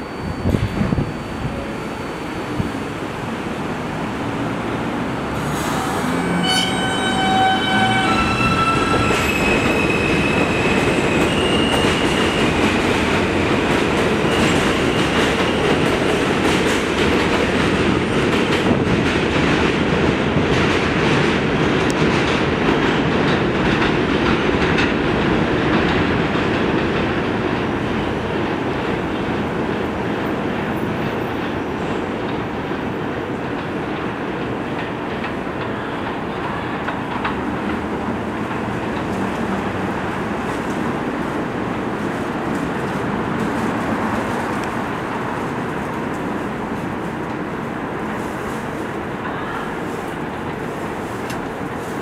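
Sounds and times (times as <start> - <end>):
train wheels rumbling and clattering: 3.5 - 52.0.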